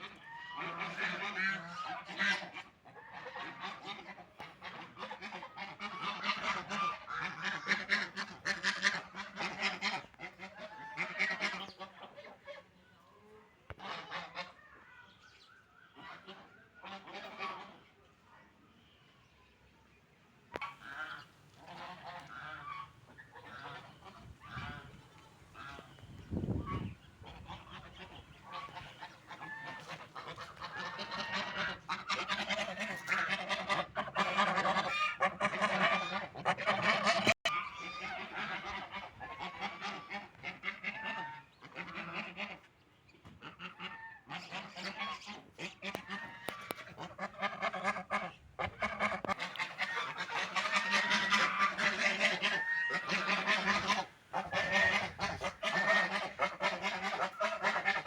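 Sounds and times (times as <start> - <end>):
ducks quacking: 0.0 - 14.8, 15.8 - 18.2, 20.5 - 58.0.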